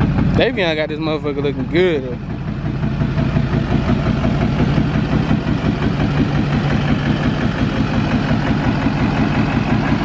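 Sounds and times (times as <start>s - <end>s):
diesel pickup engine idling: 0.0s - 10.0s.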